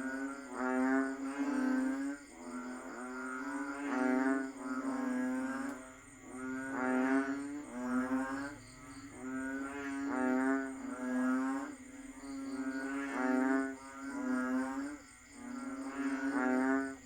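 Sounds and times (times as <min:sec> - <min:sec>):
frogs calling in chorus: 0:00.0 - 0:17.0.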